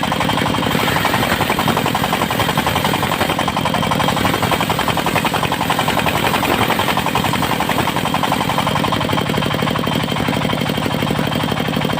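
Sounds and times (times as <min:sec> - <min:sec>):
diesel engine knocking: 0:00.0 - 0:11.9.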